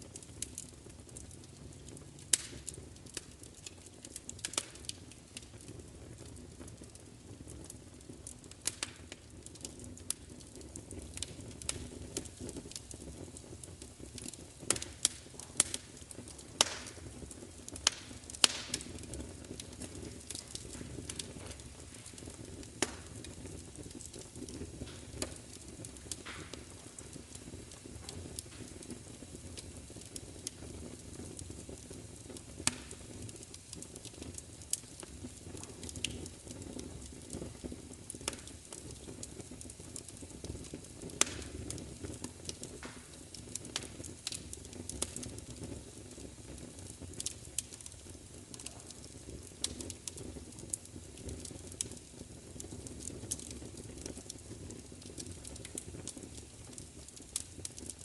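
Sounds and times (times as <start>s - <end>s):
fire pops and snaps: 0.0s - 58.0s
low rumble of flames: 0.0s - 58.0s.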